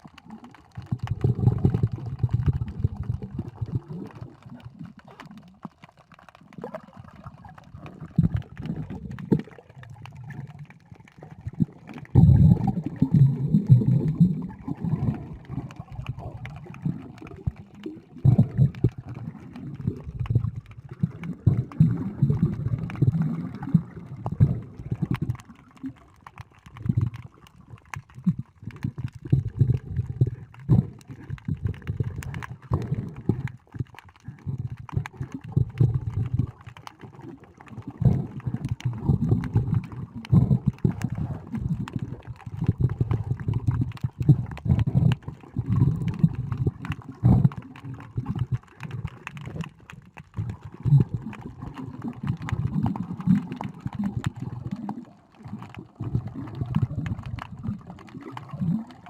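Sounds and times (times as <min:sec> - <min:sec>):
faint clicks: 0:00.0 - 0:59.0
underwater gurgling rumbles: 0:00.0 - 0:59.0.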